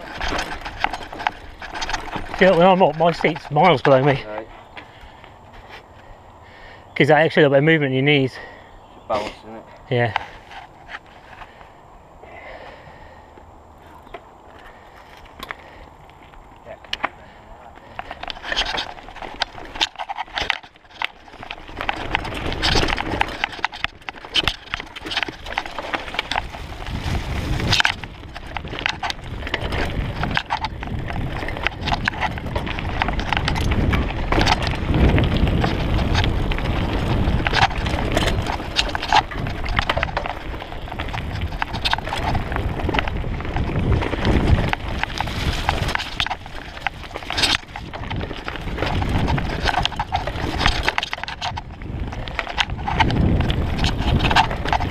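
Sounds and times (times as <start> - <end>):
wheels knocking on rocks: 0.0 - 6.2, 12.4 - 54.9
mountain bike rattling: 0.0 - 54.9
wind and tyre rumble: 0.0 - 54.9.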